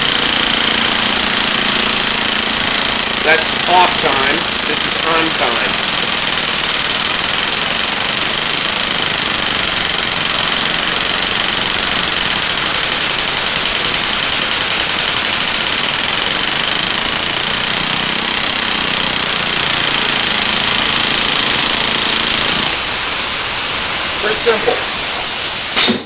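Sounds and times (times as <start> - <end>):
compressed air hissing: 0.0 - 26.0
solenoid valve chattering: 0.0 - 26.0.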